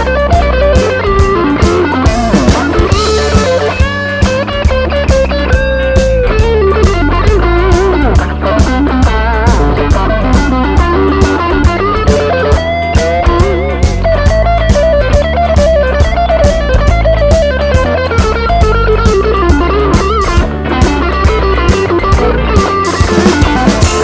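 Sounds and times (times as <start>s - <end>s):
backing track with drums: 0.0s - 24.0s
electric guitar lead with bends: 0.0s - 24.0s.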